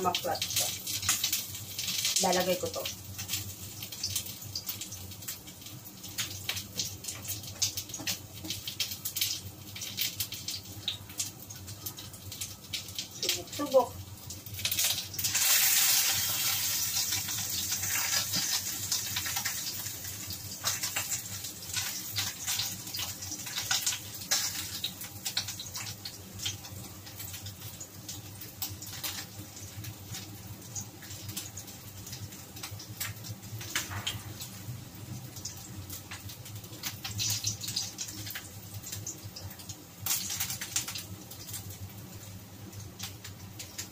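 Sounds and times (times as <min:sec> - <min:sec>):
meat sizzling in a wok: 0:00.0 - 0:43.9.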